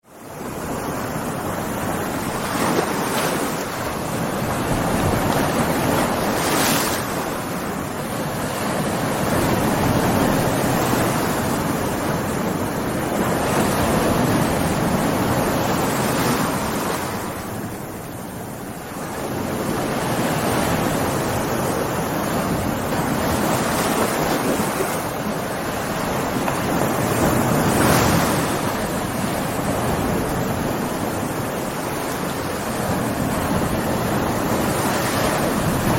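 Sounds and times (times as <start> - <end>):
heavy waves crashing: 0.1 - 35.9
wind noise: 0.1 - 35.9.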